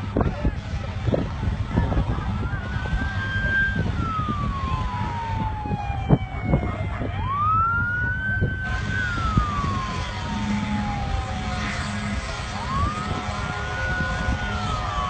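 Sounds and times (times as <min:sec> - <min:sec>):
low rumble: 0:00.0 - 0:15.0
siren wailing: 0:01.2 - 0:15.0.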